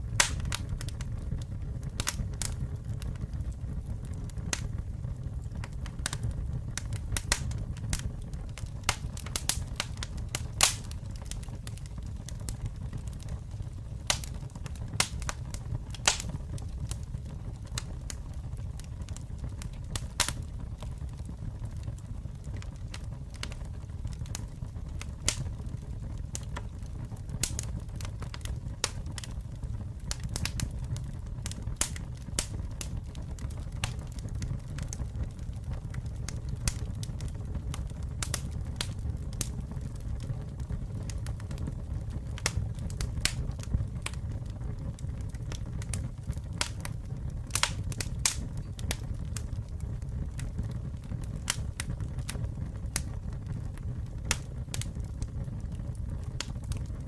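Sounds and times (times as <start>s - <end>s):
burning wood crackling and popping: 0.0s - 57.0s
campfire flames rumbling: 0.0s - 57.0s.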